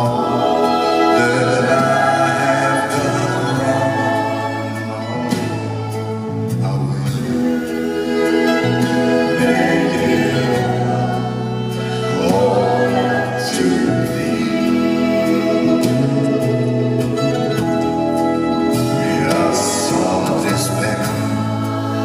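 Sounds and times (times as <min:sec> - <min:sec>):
voices singing held notes: 0:00.0 - 0:17.4, 0:18.0 - 0:22.0
instrumental backing: 0:00.0 - 0:22.0.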